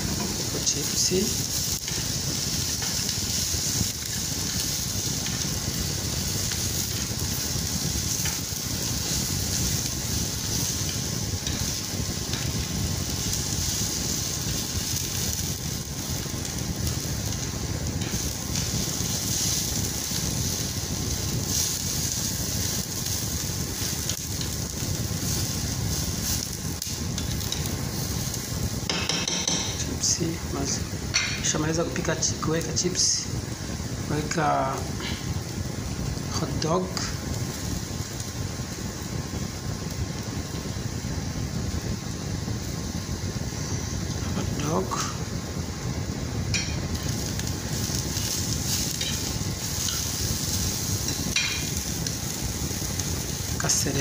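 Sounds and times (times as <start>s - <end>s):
chips sizzling in oil: 0.0s - 54.0s.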